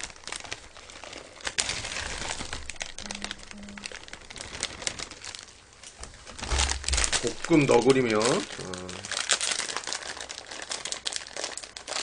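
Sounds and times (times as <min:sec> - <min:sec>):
noodle pieces crackling: 0:00.0 - 0:12.0
plastic packet crinkling: 0:00.0 - 0:12.0.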